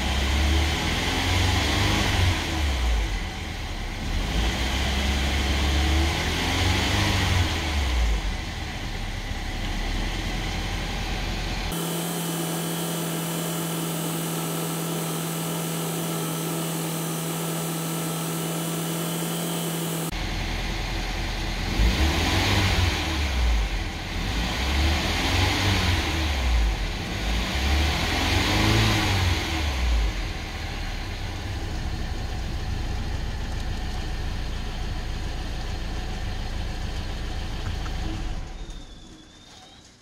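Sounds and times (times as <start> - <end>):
car engine revving and idling: 0.0 - 39.8.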